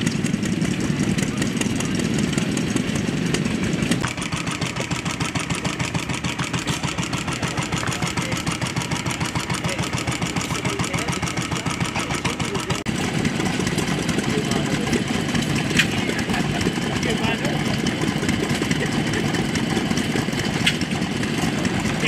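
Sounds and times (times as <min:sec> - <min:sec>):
stationary gas engines running: 0:00.0 - 0:22.0.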